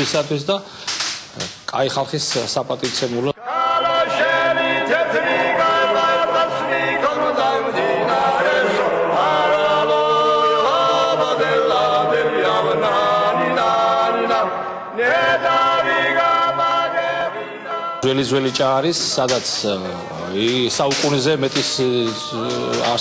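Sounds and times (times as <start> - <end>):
choir singing chords: 3.4 - 23.0.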